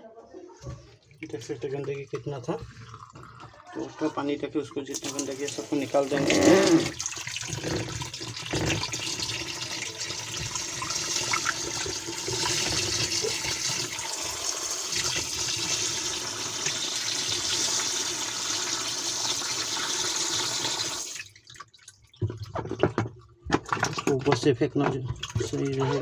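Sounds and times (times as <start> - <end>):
water rushing in washing machine tub: 4.9 - 26.0.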